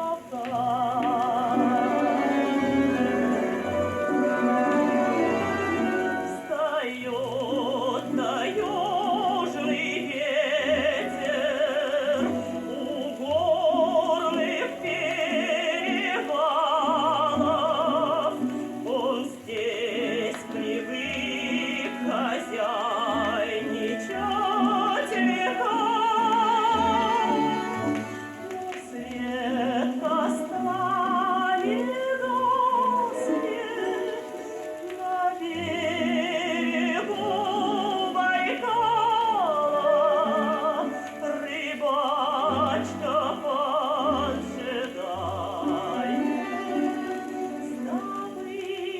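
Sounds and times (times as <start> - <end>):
old gramophone orchestral music: 0.0 - 48.9
record surface noise: 0.0 - 48.9.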